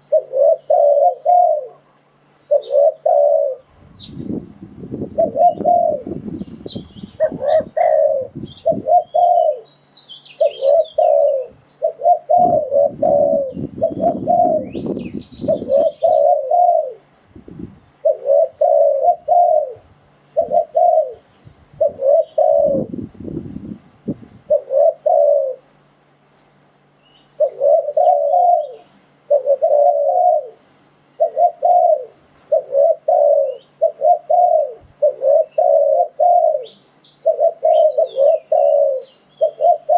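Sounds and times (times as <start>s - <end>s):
dove cooing: 0.0s - 9.7s, 10.3s - 25.7s, 27.4s - 30.6s, 31.2s - 39.9s.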